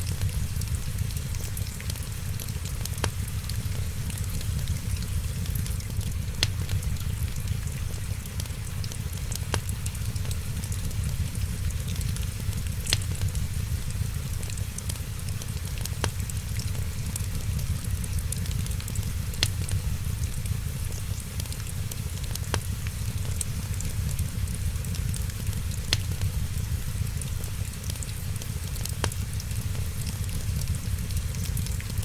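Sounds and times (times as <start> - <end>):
rain hissing: 0.0 - 32.0
steady low rumble: 0.0 - 32.0
wood fire crackling and popping: 0.0 - 32.0.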